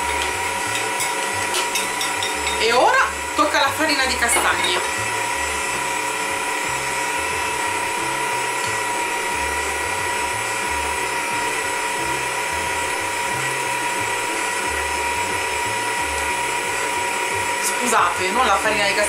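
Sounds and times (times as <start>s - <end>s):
stand mixer motor whine: 0.0s - 19.0s.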